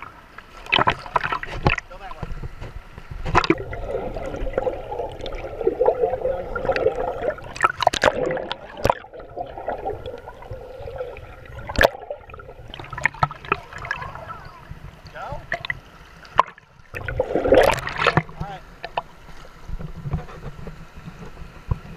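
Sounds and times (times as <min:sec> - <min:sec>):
muffled seawater gurgling and sloshing: 0:00.0 - 0:21.9.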